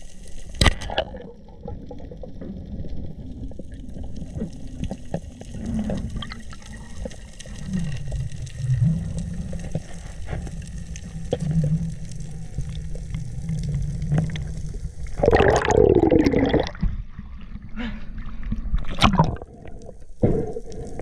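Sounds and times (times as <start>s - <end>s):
low underwater rumble: 1.1s - 21.0s.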